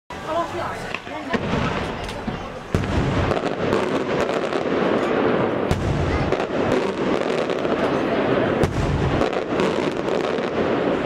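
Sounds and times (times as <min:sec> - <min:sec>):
firework shells bursting: 0:00.8 - 0:11.0.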